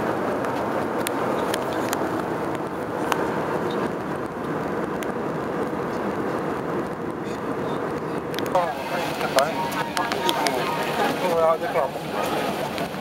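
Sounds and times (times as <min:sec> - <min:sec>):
jet engine and airflow noise: 0:00.0 - 0:13.0.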